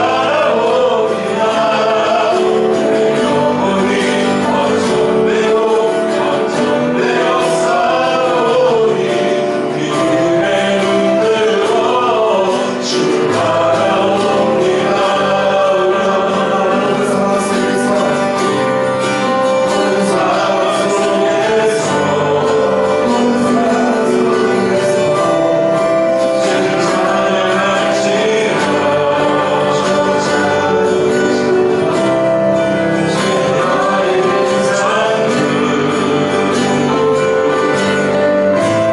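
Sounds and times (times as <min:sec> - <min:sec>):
band playing: 0:00.0 - 0:38.9
group singing worship song: 0:00.0 - 0:38.9.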